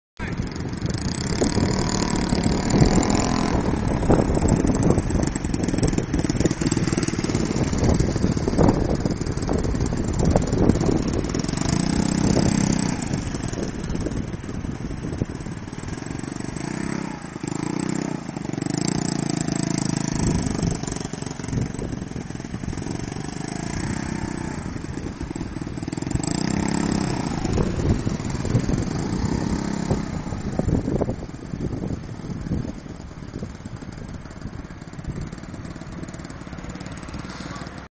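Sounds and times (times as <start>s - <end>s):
motor scooter engine revving: 0.2s - 37.9s.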